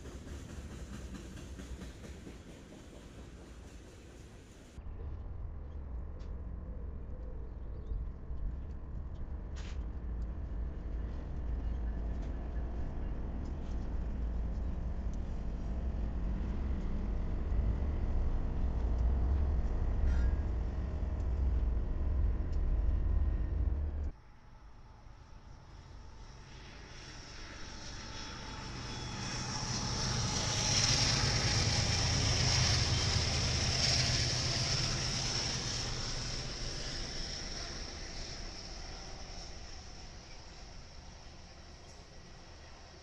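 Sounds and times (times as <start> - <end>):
freight train rumble: 0.0 - 6.8, 8.0 - 24.2, 26.1 - 43.0.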